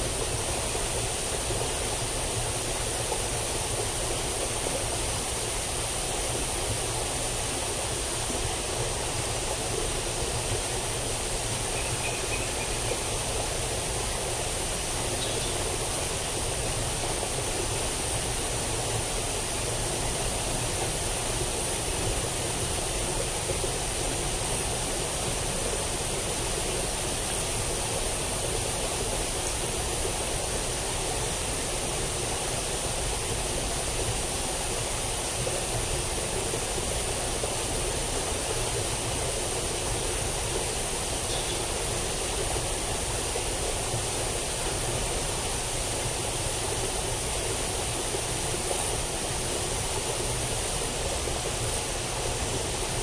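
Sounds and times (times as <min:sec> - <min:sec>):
high-pitched hiss: 0:00.0 - 0:53.0
water rushing in ditch: 0:00.0 - 0:53.0.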